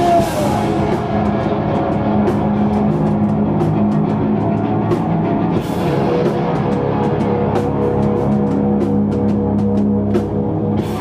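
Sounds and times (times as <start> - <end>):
drum and cymbal hits: 0.0 - 11.0.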